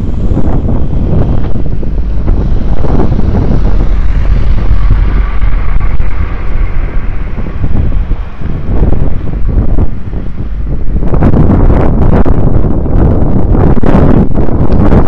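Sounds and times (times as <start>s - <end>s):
faint high hum: 0.0s - 15.0s
wind buffeting microphone: 0.0s - 15.0s.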